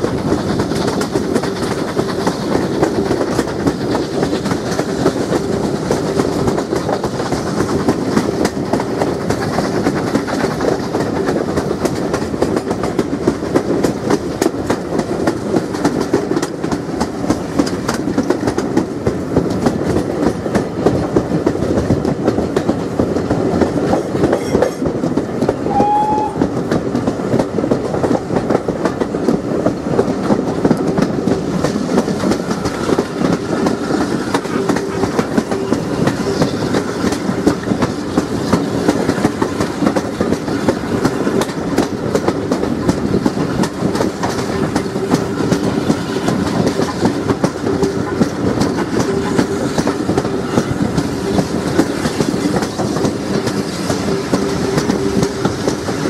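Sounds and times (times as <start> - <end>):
train coaches rumbling: 0.0 - 56.0
wheels clattering on rails: 0.0 - 56.0.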